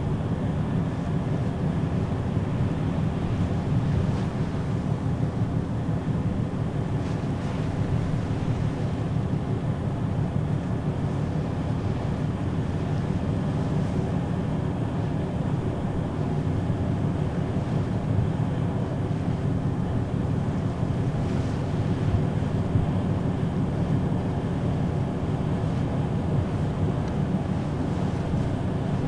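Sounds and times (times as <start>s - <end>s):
ferry engines droning: 0.0s - 29.0s
sea wash: 0.0s - 29.0s.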